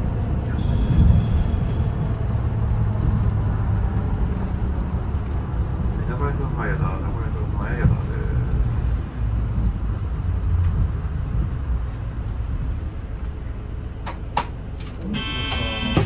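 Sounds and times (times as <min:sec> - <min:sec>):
bus rumbling: 0:00.0 - 0:16.0.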